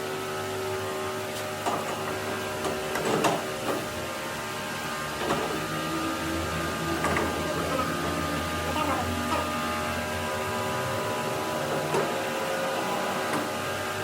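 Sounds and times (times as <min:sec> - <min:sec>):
workshop machine humming: 0:00.0 - 0:14.0.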